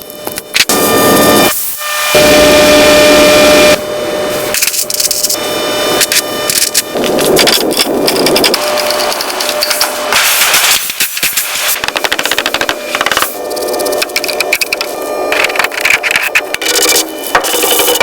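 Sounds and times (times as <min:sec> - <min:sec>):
loud steady tool whine: 0:00.0 - 0:18.0.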